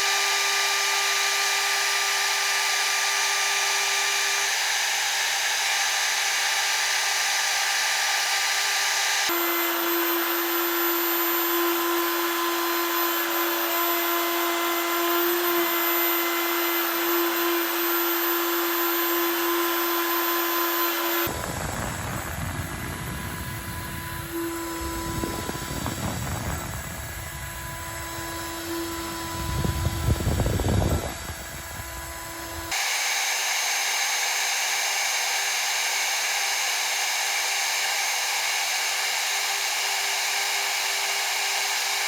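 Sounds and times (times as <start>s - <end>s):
end mill cutting metal: 0.0s - 42.0s
milling spindle whine: 0.0s - 42.0s.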